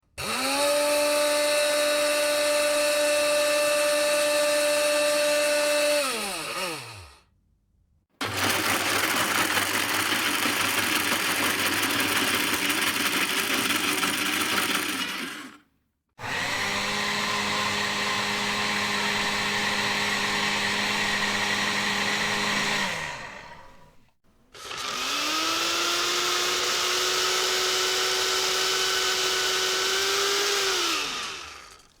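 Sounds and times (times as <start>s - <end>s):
electric blender running: 0.2s - 7.2s, 8.2s - 15.6s, 16.2s - 24.0s, 24.6s - 32.0s.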